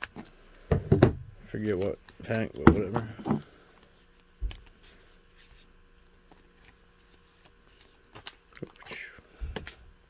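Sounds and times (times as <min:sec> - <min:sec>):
trading cards rustling: 0:01.4 - 0:09.8.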